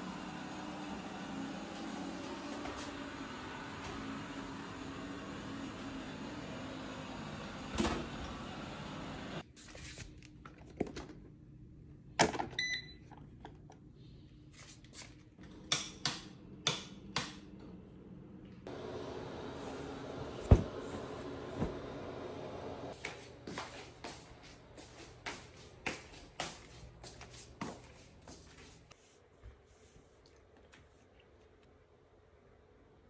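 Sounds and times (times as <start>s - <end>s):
room hum: 0.0s - 33.0s.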